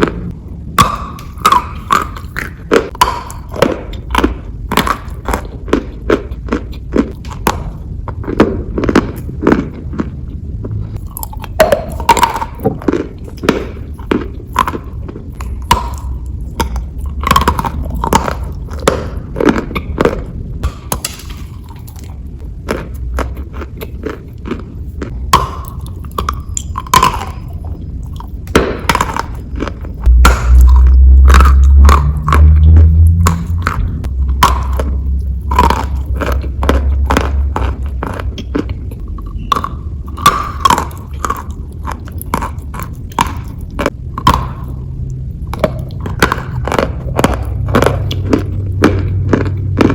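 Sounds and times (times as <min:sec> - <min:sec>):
chalk crunching when chewed: 0:00.0 - 0:49.9.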